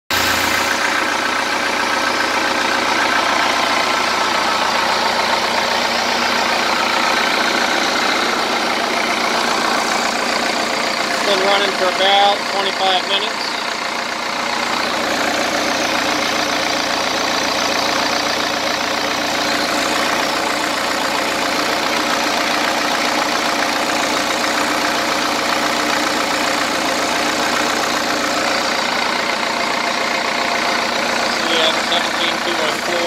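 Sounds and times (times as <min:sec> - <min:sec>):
diesel engine idling: 0:00.1 - 0:33.0.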